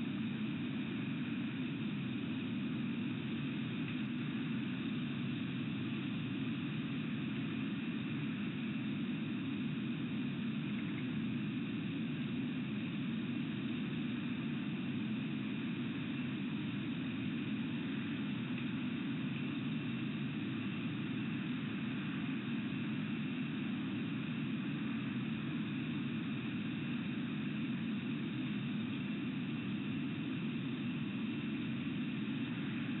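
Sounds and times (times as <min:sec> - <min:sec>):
low rumbling hiss: 0:00.0 - 0:33.0.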